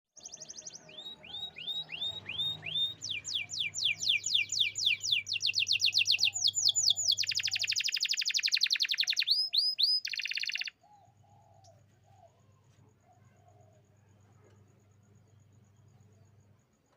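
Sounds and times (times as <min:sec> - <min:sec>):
canary singing: 0:00.2 - 0:13.9.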